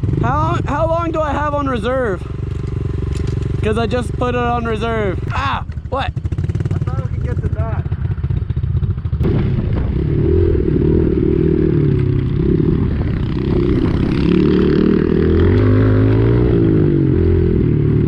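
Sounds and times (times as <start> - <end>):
pit bike engine revving: 0.0 - 18.0.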